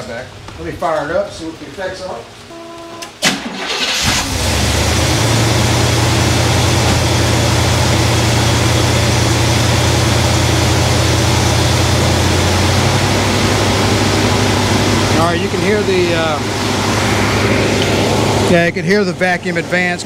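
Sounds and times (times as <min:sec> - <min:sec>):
car engine high idle: 0:03.6 - 0:20.0.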